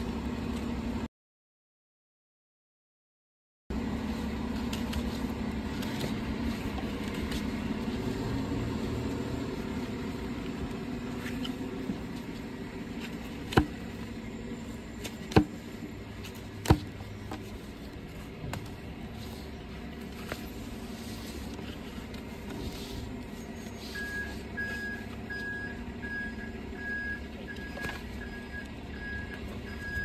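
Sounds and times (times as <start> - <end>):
steady low hum: 3.7 - 30.0.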